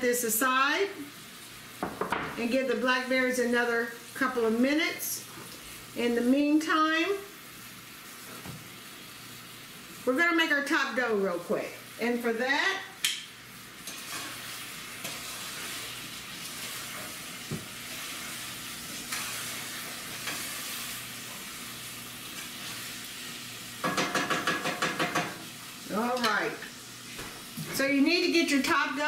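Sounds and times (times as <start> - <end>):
berries simmering and hissing: 0.0 - 29.0.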